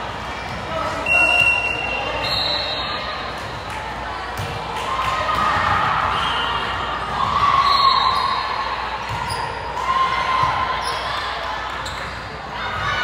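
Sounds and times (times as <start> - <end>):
crowd and player voices: 0.0 - 13.0.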